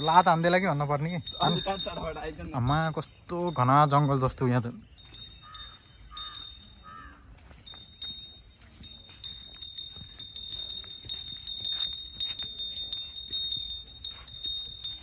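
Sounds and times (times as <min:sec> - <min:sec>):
horse hooves on dirt: 0:00.0 - 0:15.0
tack jingling: 0:00.0 - 0:15.0.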